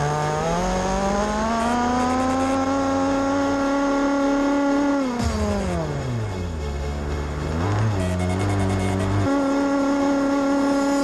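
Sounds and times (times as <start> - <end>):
rc buggy engine at full throttle: 0.0 - 6.2, 6.9 - 11.0.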